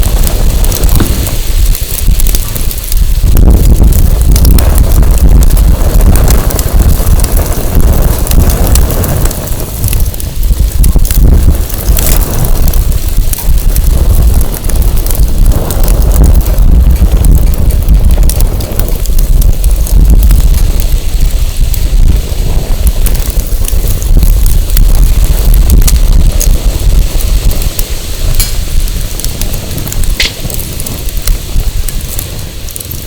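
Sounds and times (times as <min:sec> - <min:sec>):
wind buffeting microphone: 0:00.0 - 0:33.0
wood fire crackling: 0:00.0 - 0:33.0.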